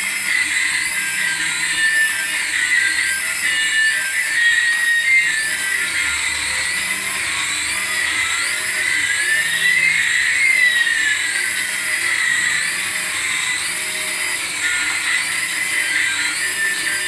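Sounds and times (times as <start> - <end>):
thin rising whine: 0.0 - 17.0
toy warbling electronic tone: 0.0 - 17.0.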